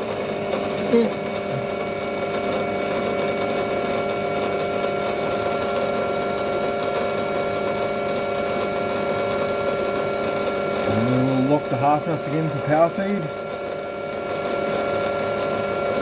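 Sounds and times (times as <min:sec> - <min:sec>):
metal lathe running: 0:00.0 - 0:16.0.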